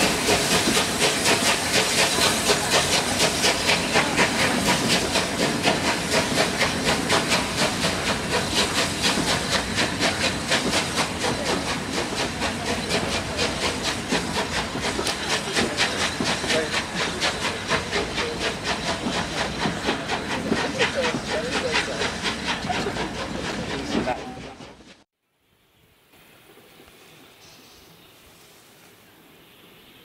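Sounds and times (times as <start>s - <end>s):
steam locomotive hissing steam: 0.0s - 25.0s, 26.1s - 30.0s
train rolling along track: 0.0s - 25.1s.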